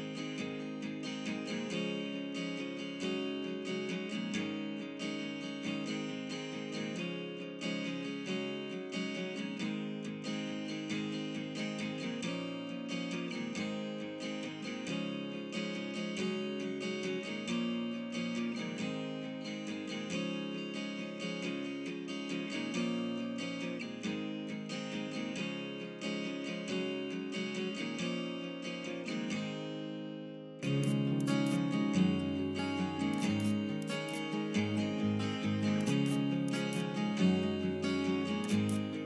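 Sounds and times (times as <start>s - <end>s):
acoustic guitar music: 0.0s - 39.0s.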